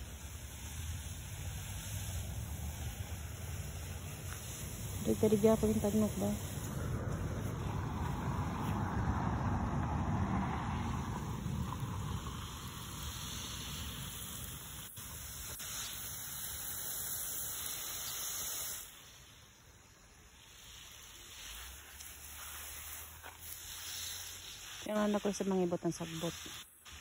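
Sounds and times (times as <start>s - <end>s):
garden hose spray hissing: 0.0s - 27.0s.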